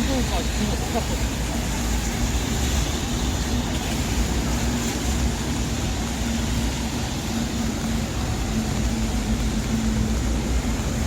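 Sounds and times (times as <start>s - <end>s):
traffic rumble: 0.0s - 11.0s
tyres hissing on wet pavement: 0.0s - 11.0s.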